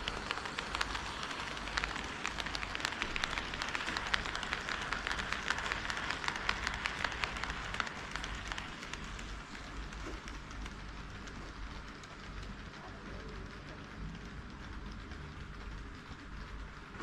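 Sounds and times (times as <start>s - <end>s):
model train wheels clicking: 0.0s - 17.0s.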